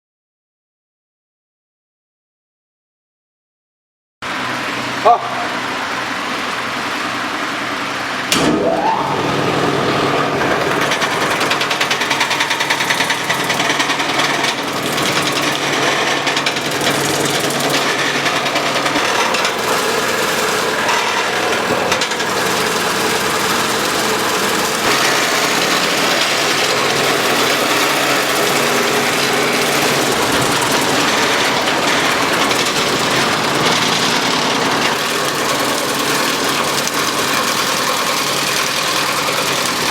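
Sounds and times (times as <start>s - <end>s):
wood shaving machine clattering: 4.3s - 39.9s.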